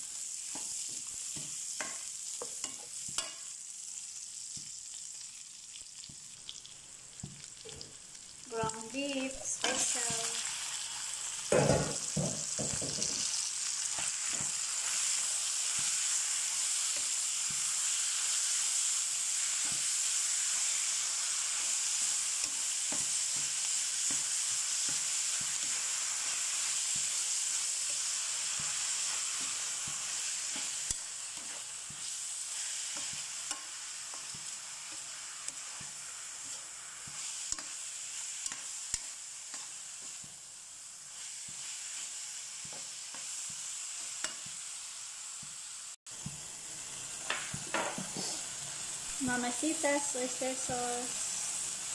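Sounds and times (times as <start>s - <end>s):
meat sizzling in a wok: 0.0s - 51.9s.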